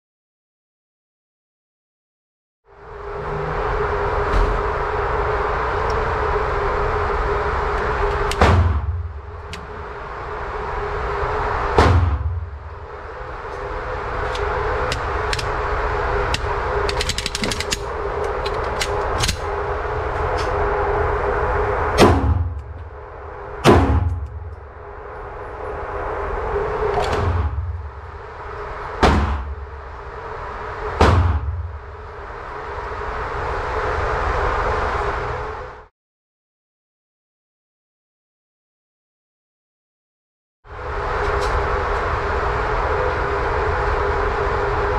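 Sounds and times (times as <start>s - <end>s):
steady hum: 2.7s - 35.9s, 40.7s - 44.9s.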